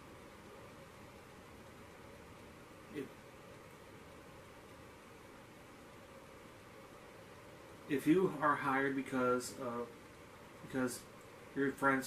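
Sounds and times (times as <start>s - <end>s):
light hiss: 0.0s - 12.0s.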